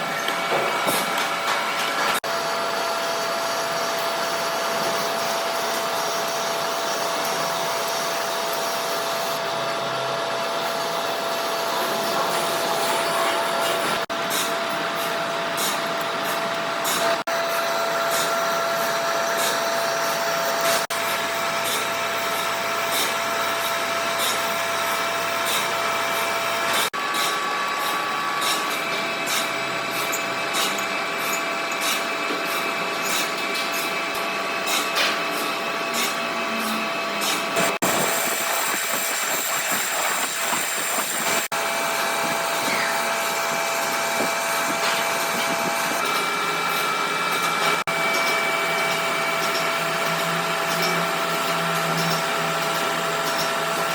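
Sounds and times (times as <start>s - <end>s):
workshop machinery whining hum: 0.0s - 53.9s.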